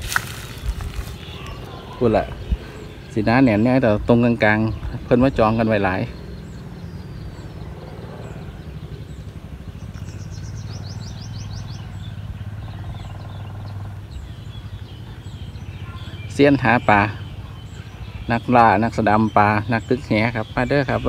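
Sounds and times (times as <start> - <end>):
bird chirping: 0.0 - 21.0
low engine hum: 0.0 - 21.0.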